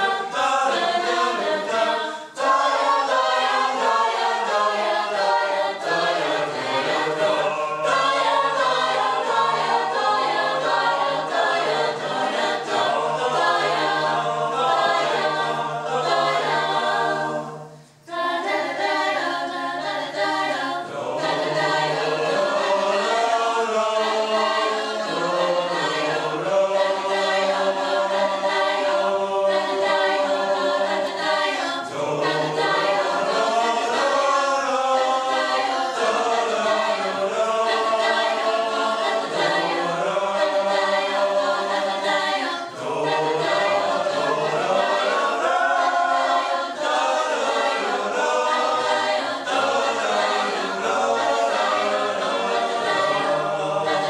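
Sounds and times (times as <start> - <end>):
mixed choir singing a cappella: 0.0 - 54.0.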